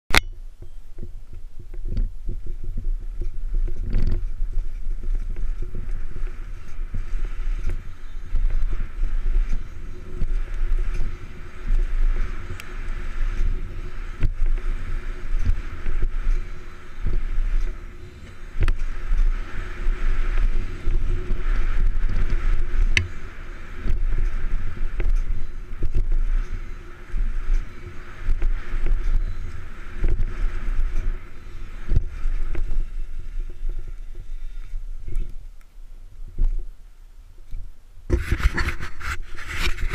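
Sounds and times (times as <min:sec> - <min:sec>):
bike knocking and rattling: 0:00.1 - 0:35.7, 0:37.4 - 0:39.9
tyres on dirt: 0:00.1 - 0:39.9
wind rushing on microphone: 0:00.1 - 0:39.9.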